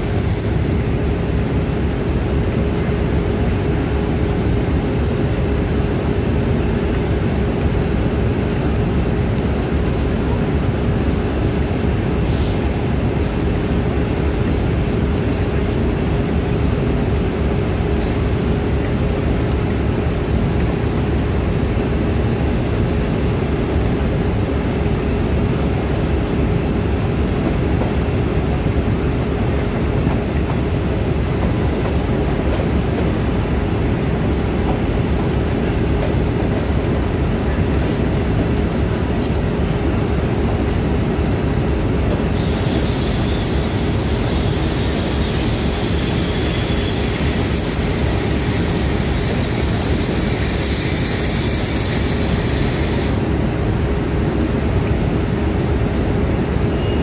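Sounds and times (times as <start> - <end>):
low rumble of trains: 0.0 - 57.0.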